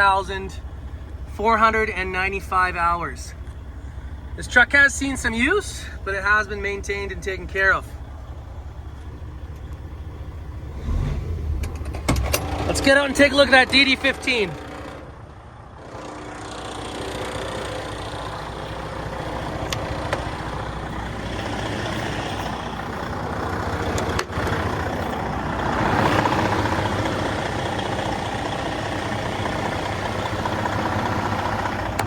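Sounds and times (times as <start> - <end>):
diesel truck engine idling: 0.0 - 32.0.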